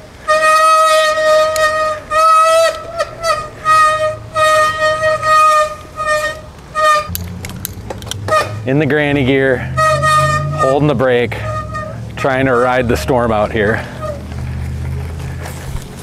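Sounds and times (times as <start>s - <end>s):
bicycle rim brakes squealing: 0.0s - 7.1s, 7.7s - 16.0s.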